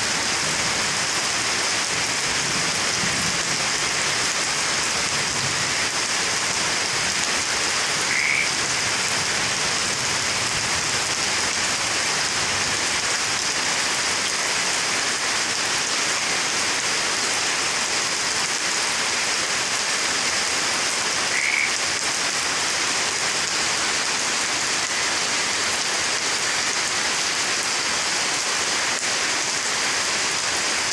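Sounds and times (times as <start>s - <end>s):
heavy rain: 0.0s - 30.9s.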